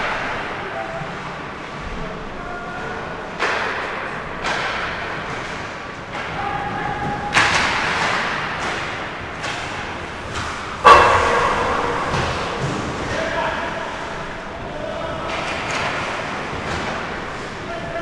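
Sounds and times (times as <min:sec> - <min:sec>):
hockey puck and sticks hitting boards: 0:00.0 - 0:01.3, 0:03.3 - 0:18.0.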